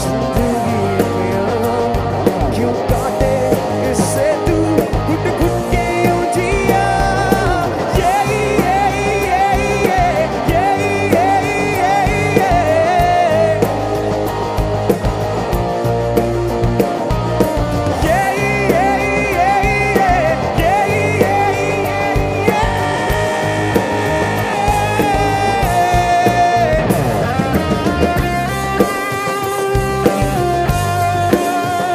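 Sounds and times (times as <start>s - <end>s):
person singing: 0.0s - 14.0s, 18.0s - 31.9s
live rock band playing: 0.0s - 31.9s.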